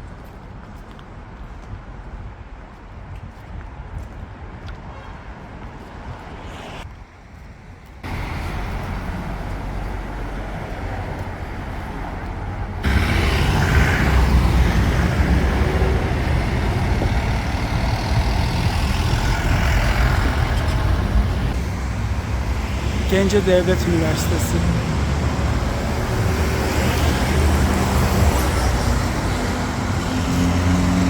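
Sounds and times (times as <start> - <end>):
street traffic passing: 0.0 - 31.0.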